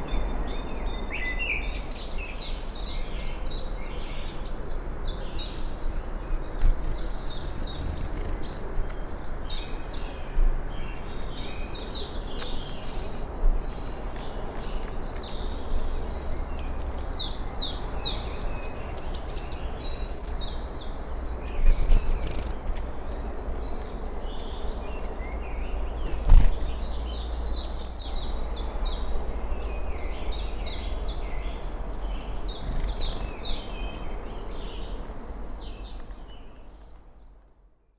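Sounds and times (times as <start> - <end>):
songbirds trilling and chirping: 0.0 - 37.9.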